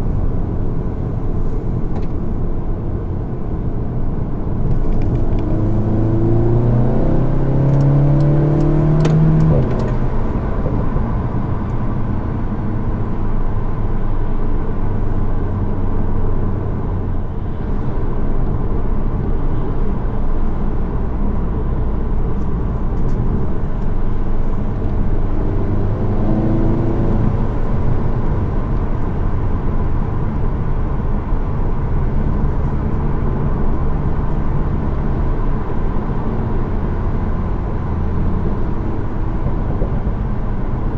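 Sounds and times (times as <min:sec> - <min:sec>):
car engine from inside cabin: 0:00.0 - 0:40.9.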